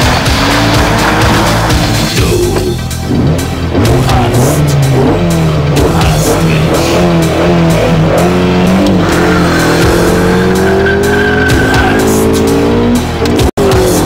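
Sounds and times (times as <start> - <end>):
car engine accelerating: 0.0 - 14.0
heavy rock music: 0.0 - 14.0.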